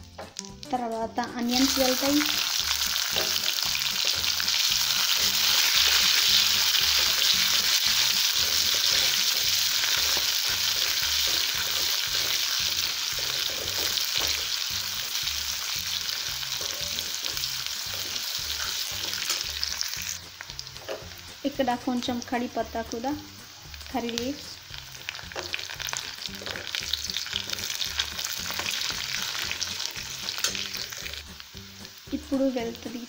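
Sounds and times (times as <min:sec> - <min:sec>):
onions sizzling in hot oil: 0:01.4 - 0:33.0.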